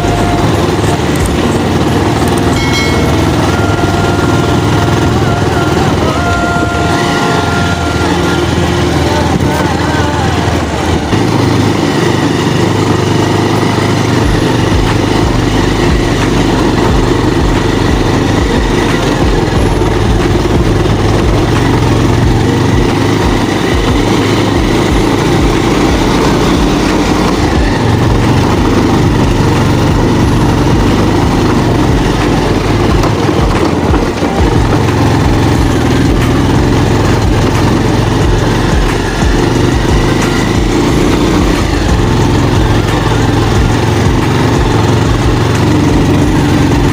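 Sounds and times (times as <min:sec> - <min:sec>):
motorcycle engine running: 0:00.0 - 0:46.9
uneven low rumbling: 0:00.0 - 0:46.9.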